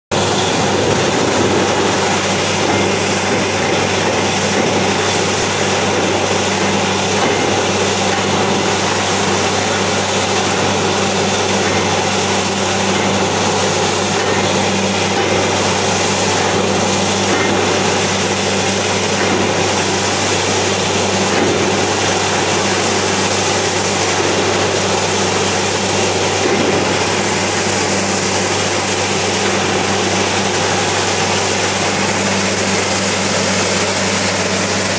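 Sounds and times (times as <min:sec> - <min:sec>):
drilling rig humming: 0:00.1 - 0:34.9
water gushing and splashing: 0:00.1 - 0:34.9.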